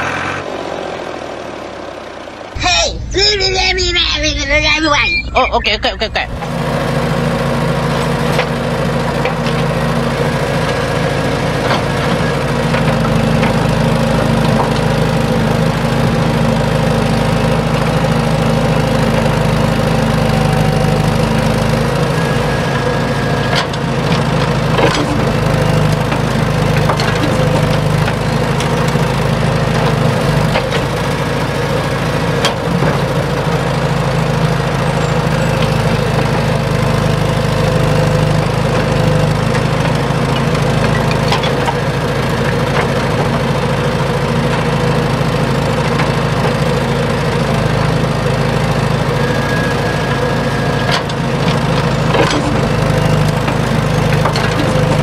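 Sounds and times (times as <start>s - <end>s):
model excavator motor hum: 6.1s - 55.0s.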